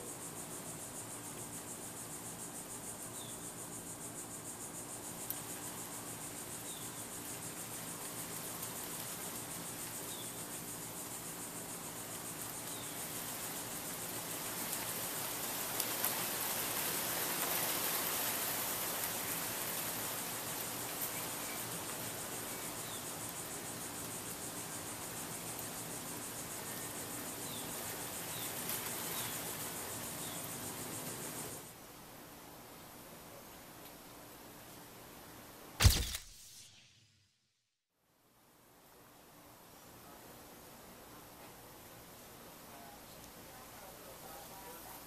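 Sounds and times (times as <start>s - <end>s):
high steady hiss: 0.0s - 45.0s.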